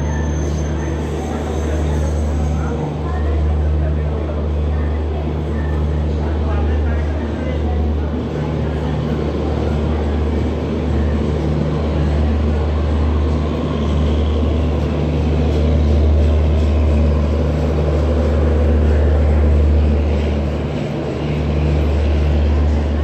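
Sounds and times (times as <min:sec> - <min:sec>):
train coaches rolling past: 0:00.0 - 0:23.0.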